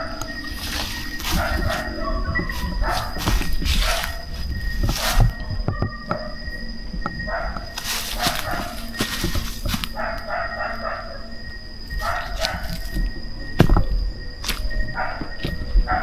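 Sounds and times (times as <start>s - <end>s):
animal calls: 0.0s - 16.0s
steady high-pitched tone: 0.0s - 16.0s.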